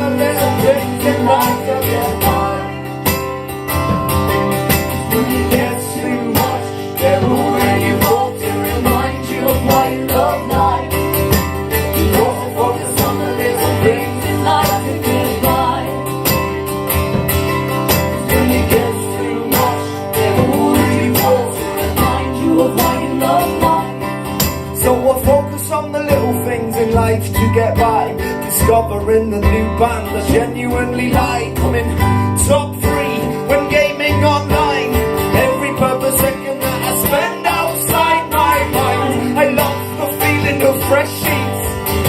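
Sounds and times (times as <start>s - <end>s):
acoustic guitars strumming: 0.0s - 42.0s.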